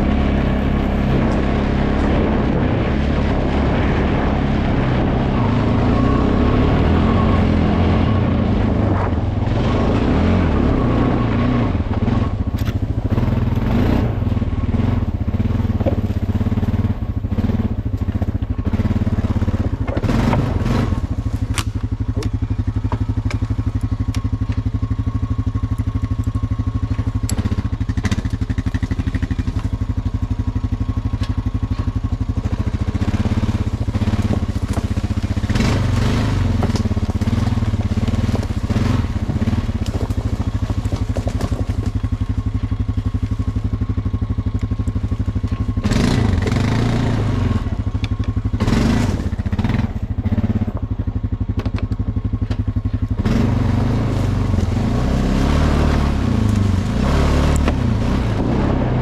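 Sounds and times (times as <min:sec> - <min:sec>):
atv engine running: 0:00.0 - 0:59.0
dry leaves crunching under tyres: 0:00.0 - 0:59.0.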